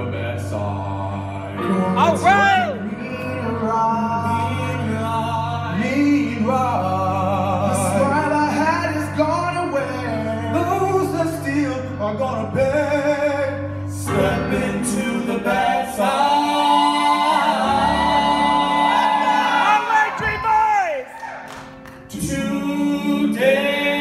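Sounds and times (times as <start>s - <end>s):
male choir singing in harmony: 0.0s - 20.3s, 22.1s - 24.0s.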